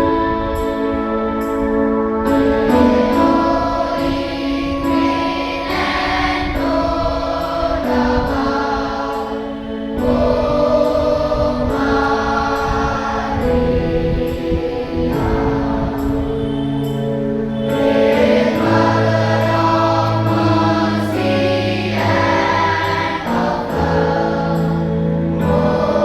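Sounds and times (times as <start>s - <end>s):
boys' choir singing a hymn: 0.0s - 26.0s.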